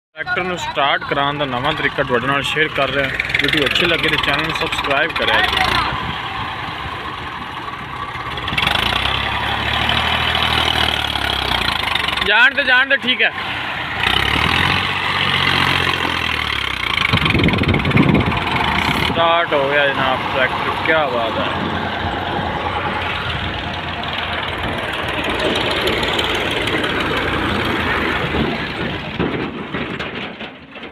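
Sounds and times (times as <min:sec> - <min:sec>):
tractor diesel engine running: 0:00.2 - 0:30.9.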